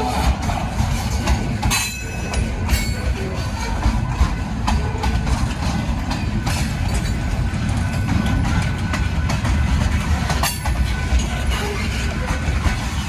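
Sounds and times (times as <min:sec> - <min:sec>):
train rumbling past: 0:00.0 - 0:13.0
wheels clicking over rail joints: 0:00.0 - 0:13.0.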